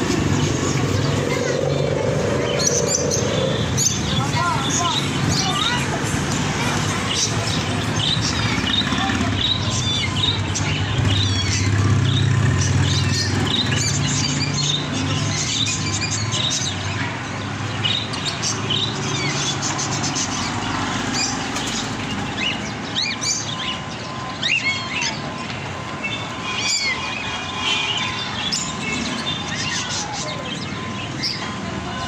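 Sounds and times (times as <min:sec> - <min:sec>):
small birds chirping: 0:00.0 - 0:32.0
steady background din: 0:00.0 - 0:32.0.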